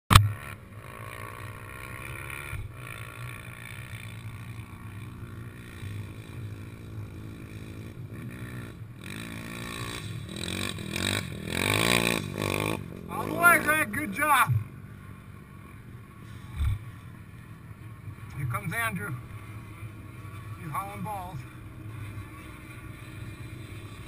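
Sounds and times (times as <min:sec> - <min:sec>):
quad engine revving: 0:00.1 - 0:24.0.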